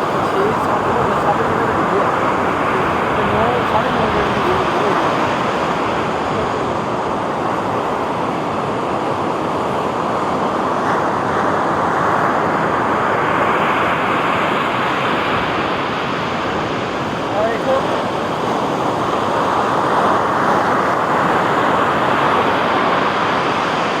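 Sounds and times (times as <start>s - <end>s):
sea waves breaking on beach: 0.0s - 24.0s.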